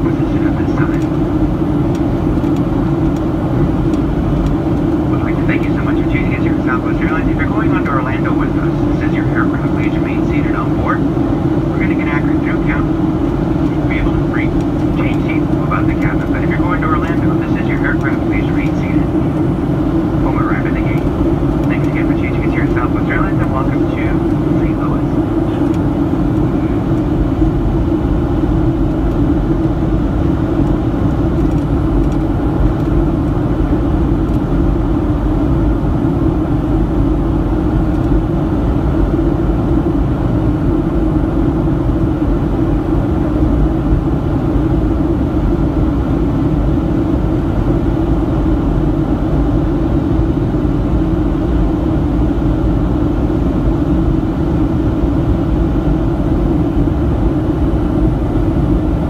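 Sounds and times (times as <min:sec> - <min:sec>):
airplane cabin engine noise: 0:00.0 - 0:59.0.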